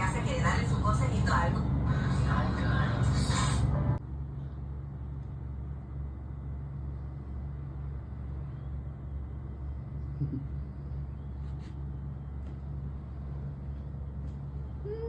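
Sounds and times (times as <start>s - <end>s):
constant low hum: 0.0s - 15.0s
low outdoor rumble: 0.0s - 15.0s.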